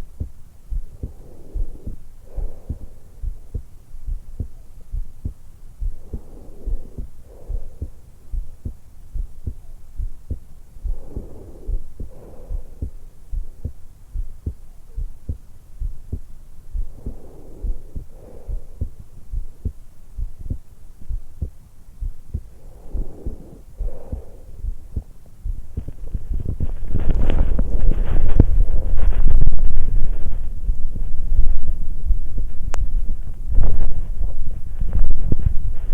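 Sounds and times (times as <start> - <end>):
heartbeat thumps: 0.0 - 35.9
soft breathing: 0.0 - 35.9.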